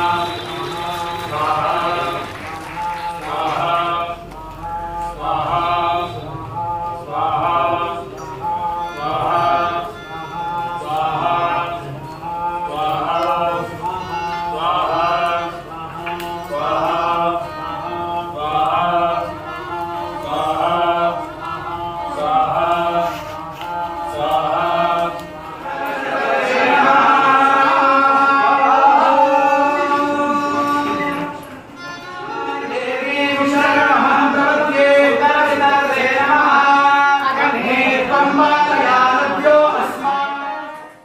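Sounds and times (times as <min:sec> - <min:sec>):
men chanting in unison: 0:00.0 - 0:31.4, 0:32.4 - 0:40.9.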